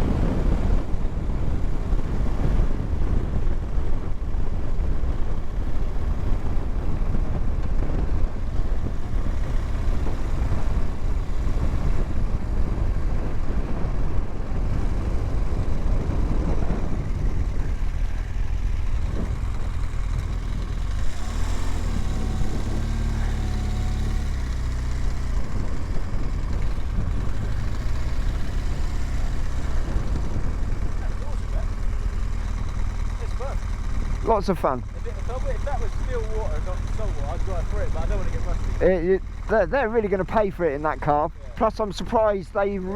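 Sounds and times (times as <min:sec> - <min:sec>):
motorcycle engine rumbling: 0:00.0 - 0:42.9.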